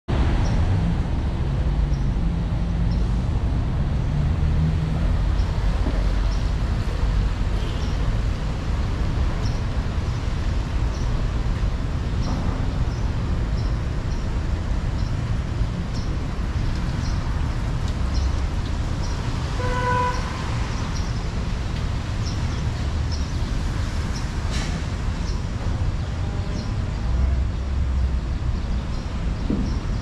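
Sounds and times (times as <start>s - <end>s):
city street traffic rumble: 0.1s - 30.0s.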